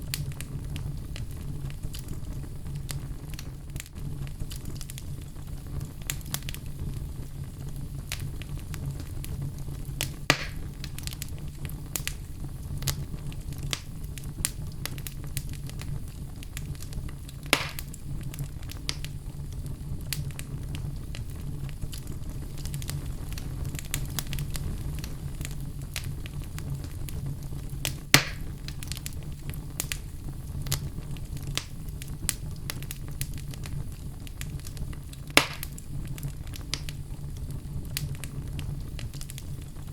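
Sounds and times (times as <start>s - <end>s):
sharp fire pops: 0.0s - 39.9s
wood fire crackling: 0.0s - 39.9s.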